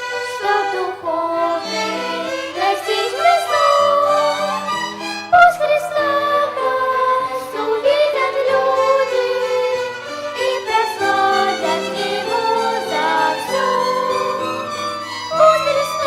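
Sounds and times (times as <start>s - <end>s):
violin ensemble playing slow melody: 0.0s - 16.0s.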